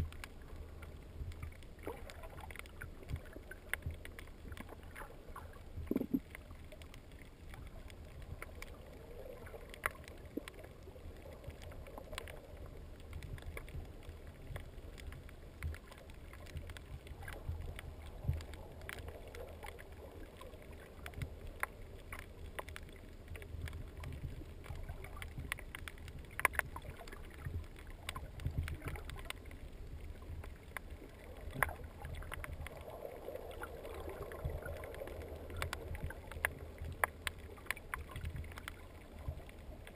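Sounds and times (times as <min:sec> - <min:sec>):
faint underwater clicks and crackles: 0:00.0 - 0:39.9
low underwater rumble: 0:00.0 - 0:39.9.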